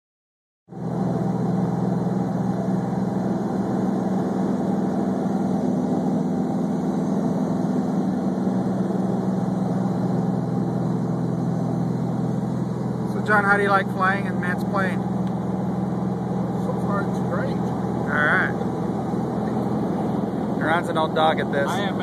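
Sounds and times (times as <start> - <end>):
propeller airplane cabin drone: 0.7 - 22.0.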